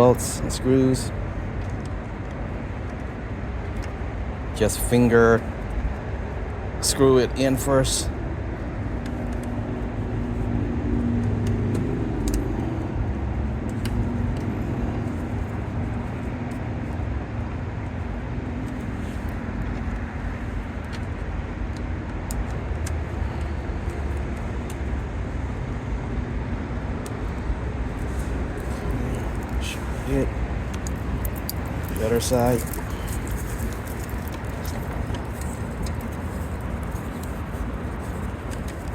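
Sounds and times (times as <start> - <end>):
vehicle rumble: 0.0 - 38.9.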